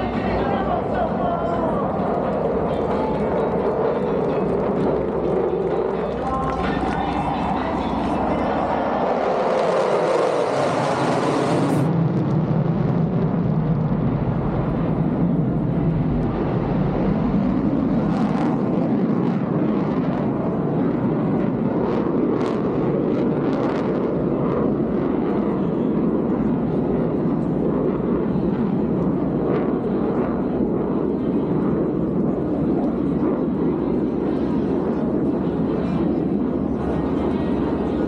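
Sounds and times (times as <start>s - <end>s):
fighter jet passing: 0.0s - 38.0s.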